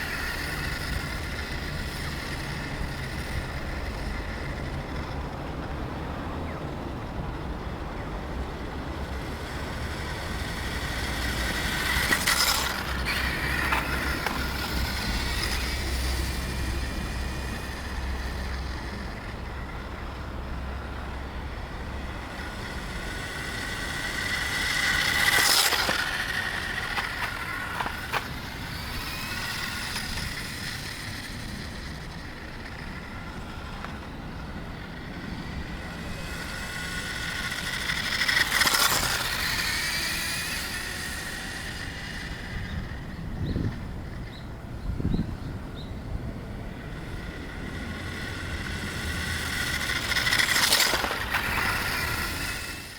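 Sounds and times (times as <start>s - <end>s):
electric motor whining: 0.0s - 52.9s.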